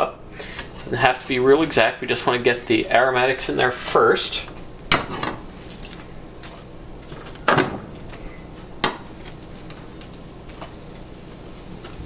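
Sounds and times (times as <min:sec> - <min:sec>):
onion frying in fat: 0:00.0 - 0:12.0.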